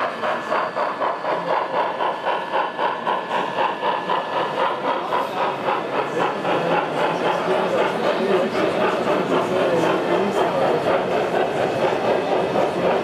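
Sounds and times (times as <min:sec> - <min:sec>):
model steam train running past: 0:00.0 - 0:13.0.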